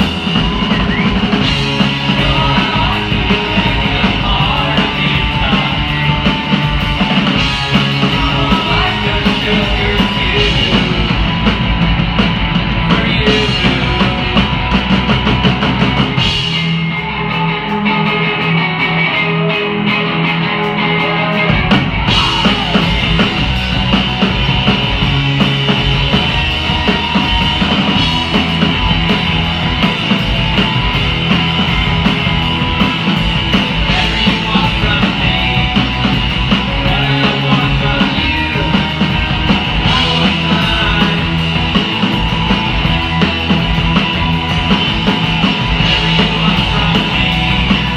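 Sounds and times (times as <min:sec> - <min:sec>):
drum kit: 0:00.0 - 0:47.9
electric guitar: 0:00.0 - 0:47.9
rock band playing live: 0:00.0 - 0:47.9.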